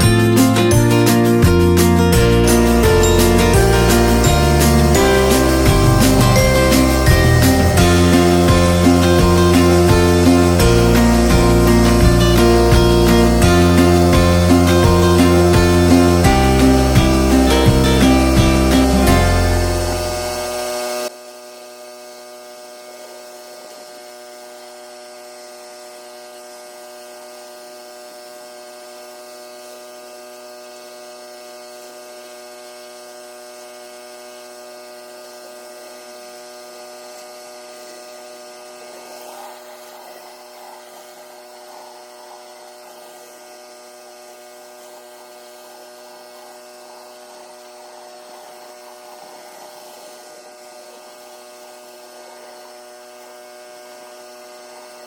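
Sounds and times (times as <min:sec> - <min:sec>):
pressure washer droning: 0:00.0 - 0:55.0.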